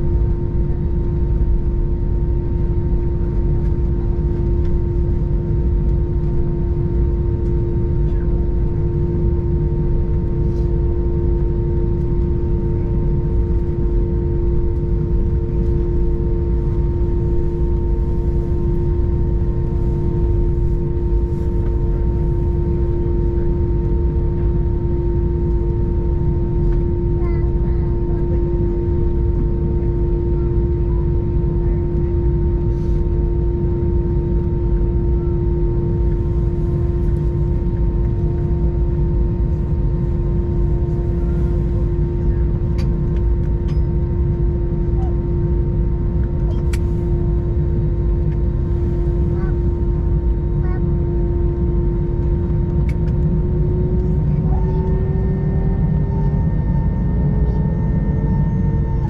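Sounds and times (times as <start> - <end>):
airplane cabin low rumble: 0.0 - 59.0
steady hum: 0.0 - 59.0.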